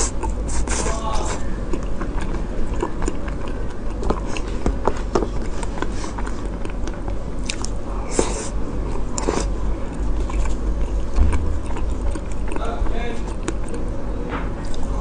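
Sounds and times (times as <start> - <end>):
chewing frozen dessert: 0.0 - 15.0.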